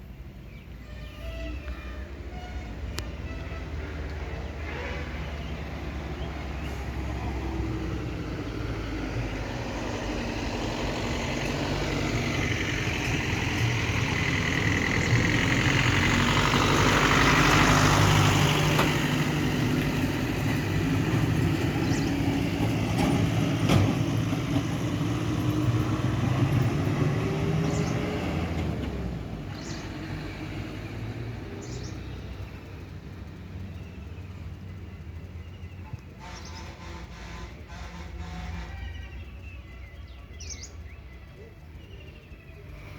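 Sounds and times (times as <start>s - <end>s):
truck engine passing: 0.0s - 42.9s.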